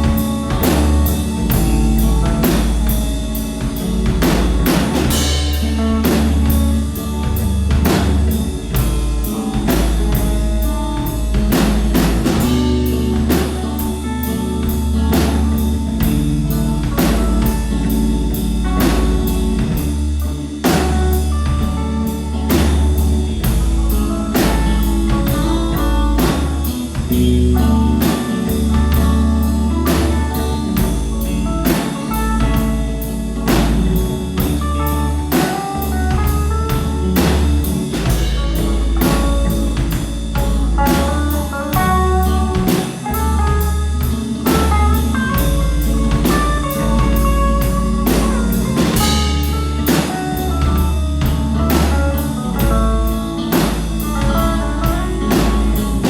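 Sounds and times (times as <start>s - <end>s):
drum kit steady beat: 0.0s - 56.0s
rock band playing: 0.0s - 56.0s.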